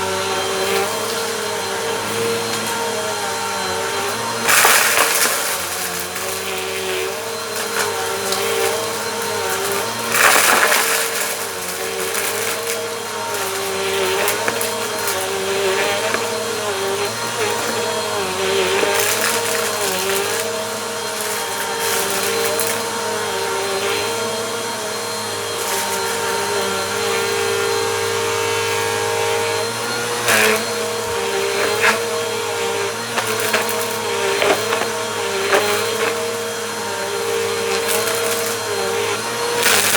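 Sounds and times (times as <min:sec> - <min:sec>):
vacuum cleaner running on rug: 0:00.0 - 0:39.9
vacuum crunching grit: 0:00.0 - 0:39.9.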